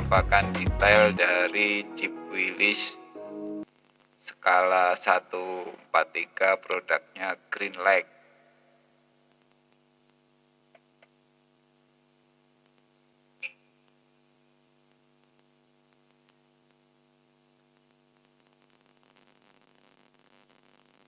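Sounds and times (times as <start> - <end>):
low electrical hum: 3.6 - 21.0.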